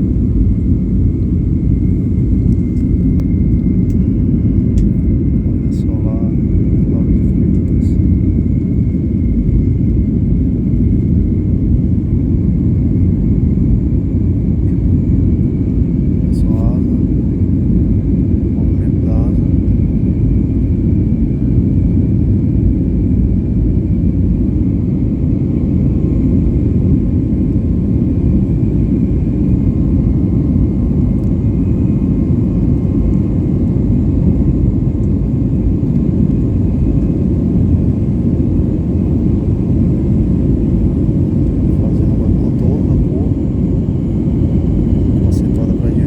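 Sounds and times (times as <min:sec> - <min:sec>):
jet engines and airflow rumble: 0:00.0 - 0:46.0.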